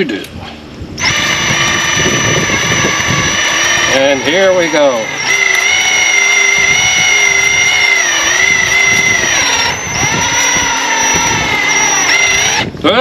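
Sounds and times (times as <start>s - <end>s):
diesel tractor whining under load: 0.6s - 13.0s.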